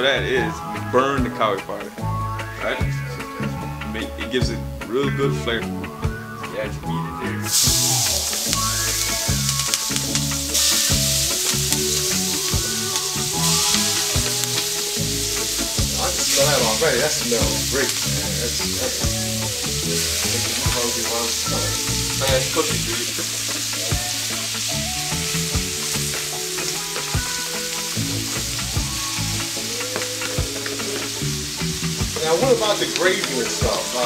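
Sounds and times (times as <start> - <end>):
chicken sizzling in oil: 0.0 - 34.0.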